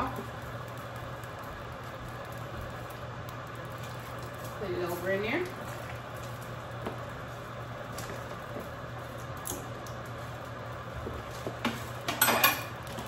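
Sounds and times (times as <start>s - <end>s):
pots hissing on stove: 0.0s - 13.0s.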